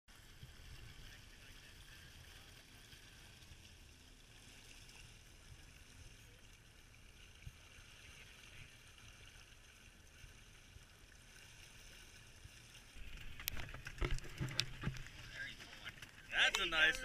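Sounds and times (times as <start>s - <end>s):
water and wind noise: 0.1s - 17.0s.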